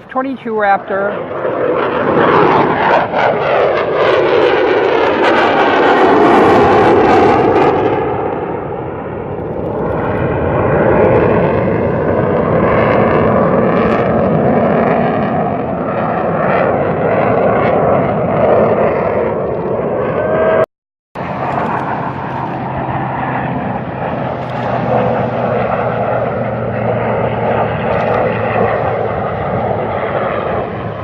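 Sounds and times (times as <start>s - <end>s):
steady jet rumble: 0.0s - 20.6s, 21.2s - 31.0s
jet flying past: 0.0s - 31.0s.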